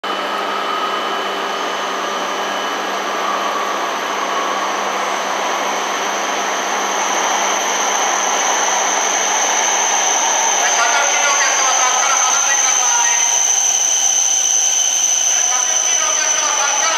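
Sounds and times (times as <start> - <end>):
train high whine: 0.0 - 16.9.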